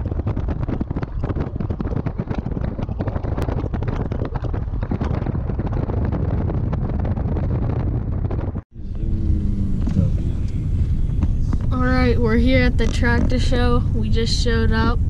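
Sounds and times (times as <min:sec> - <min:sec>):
faint low hum: 0:00.0 - 0:15.0
wind buffeting microphone: 0:00.0 - 0:15.0.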